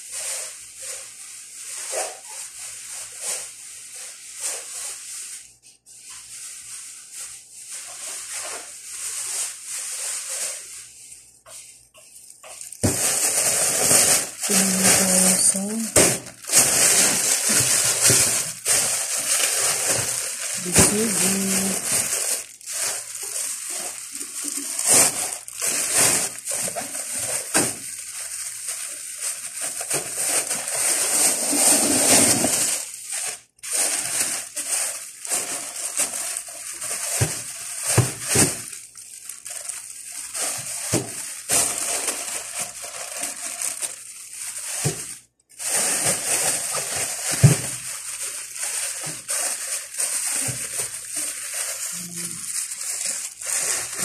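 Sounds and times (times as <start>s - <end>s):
plastic bags crinkling: 6.0s - 54.0s.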